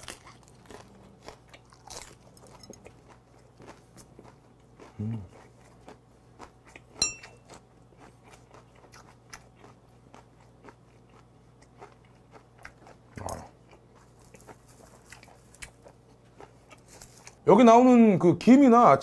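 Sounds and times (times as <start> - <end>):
chewing with soft crunching: 0.0 - 17.5.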